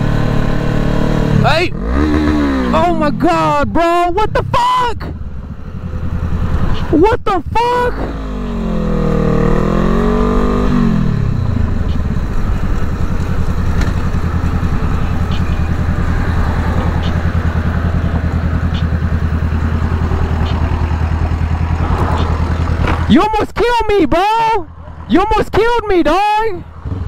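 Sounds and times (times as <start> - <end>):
motorcycle engine revving: 0.0 - 23.3, 26.2 - 27.0.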